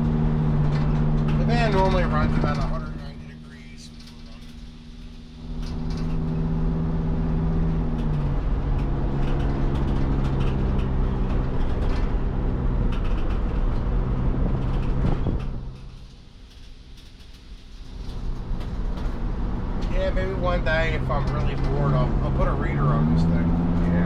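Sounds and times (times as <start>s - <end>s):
van engine running: 0.0s - 24.0s.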